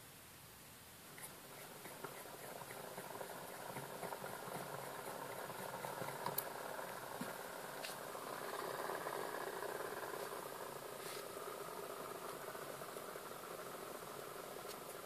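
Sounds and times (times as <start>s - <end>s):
magnet rotor whirring and rattling: 1.1s - 15.0s.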